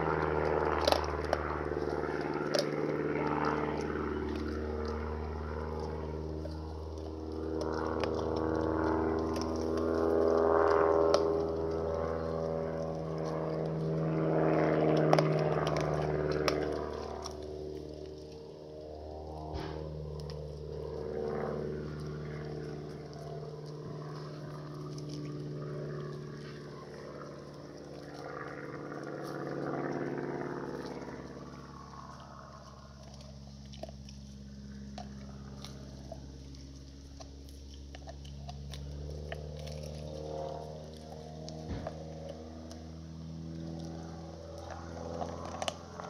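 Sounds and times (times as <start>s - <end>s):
dog crunching bone: 0.0s - 46.0s
engine drone: 0.0s - 46.0s.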